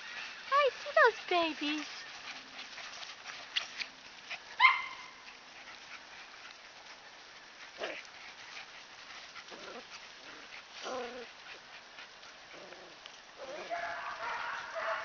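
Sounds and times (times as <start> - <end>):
puppies yipping: 0.0 - 12.2, 13.4 - 15.0.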